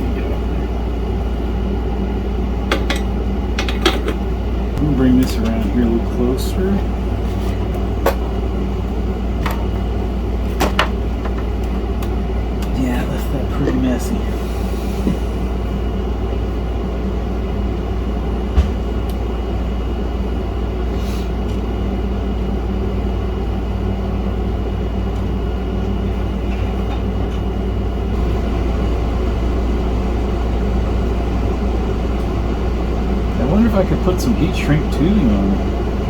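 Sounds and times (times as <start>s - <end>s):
low hum and rumble: 0.0s - 36.0s.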